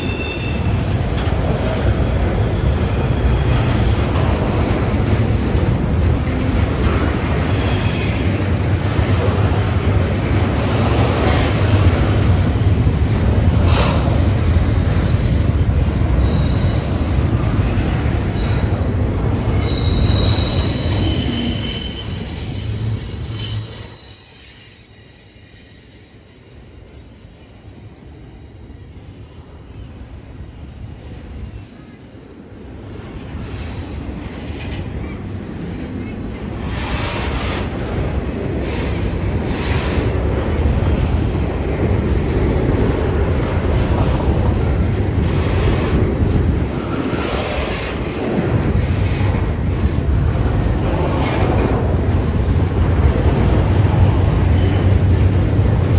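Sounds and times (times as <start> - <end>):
train wheel squeal: 0.0 - 5.2, 6.8 - 9.7, 13.5 - 41.5, 43.0 - 50.0, 50.7 - 55.9
freight train wheels rumbling: 0.0 - 55.9.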